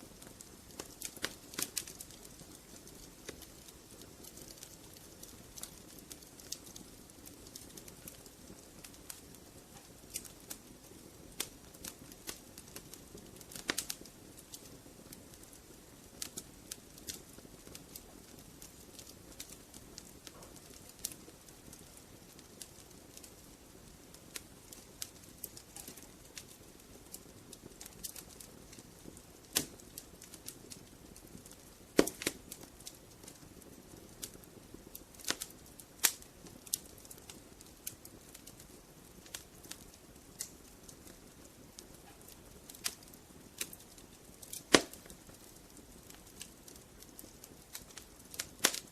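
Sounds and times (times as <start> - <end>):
wood logs crackling in fireplace: 0.0 - 48.9.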